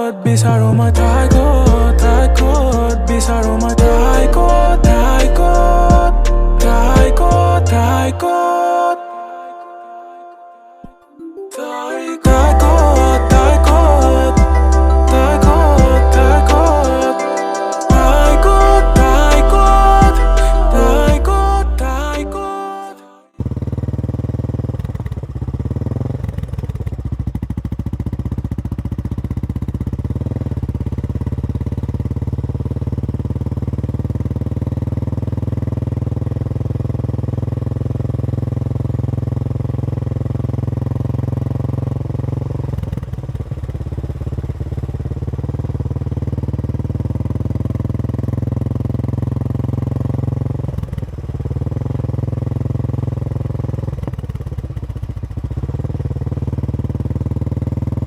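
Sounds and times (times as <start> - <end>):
motorcycle engine running: 0.3 - 8.3, 12.3 - 22.2, 23.4 - 58.0.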